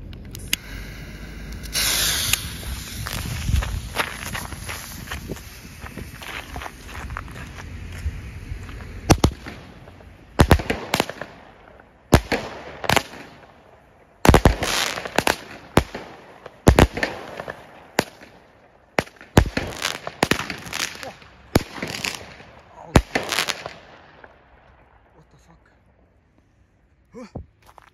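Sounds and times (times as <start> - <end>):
fireworks bangs: 1.0 - 25.2.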